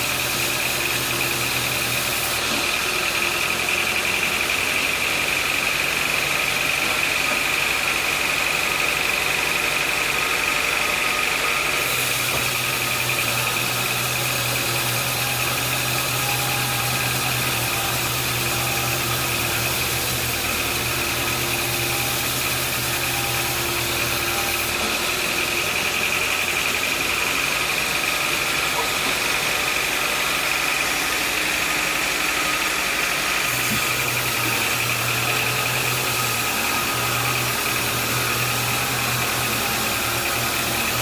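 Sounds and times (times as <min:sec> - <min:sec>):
sawmill saw whining: 0:00.0 - 0:41.0.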